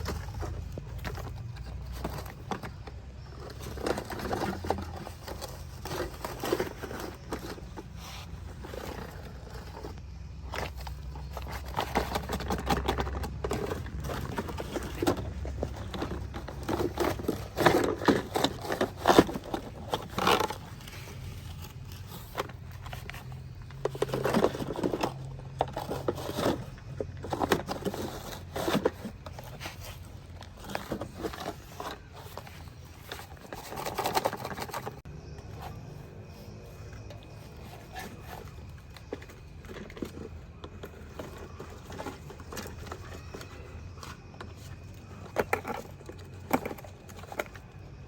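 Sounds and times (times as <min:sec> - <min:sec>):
scraping and crackling clicks: 0:00.0 - 0:48.0.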